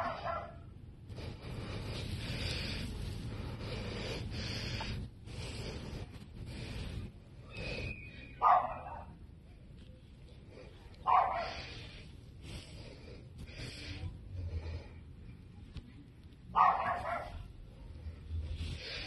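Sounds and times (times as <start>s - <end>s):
background noise haze: 0.0s - 19.0s.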